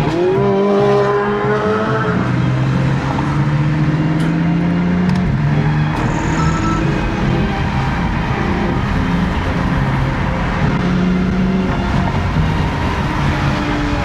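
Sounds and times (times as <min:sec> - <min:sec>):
car engine and exhaust accelerating: 0:00.0 - 0:14.0.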